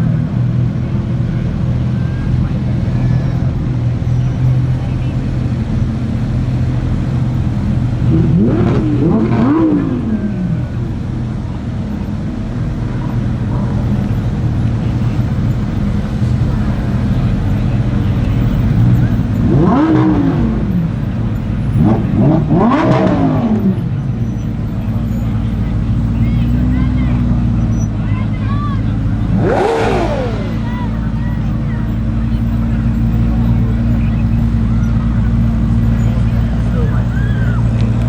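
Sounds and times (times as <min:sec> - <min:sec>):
car engines idling: 0:00.0 - 0:38.0
engine throttle blips: 0:00.0 - 0:38.0.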